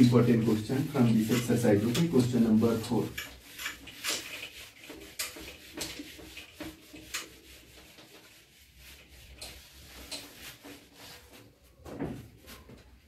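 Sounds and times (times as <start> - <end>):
duster wiping whiteboard: 0.0 - 13.0.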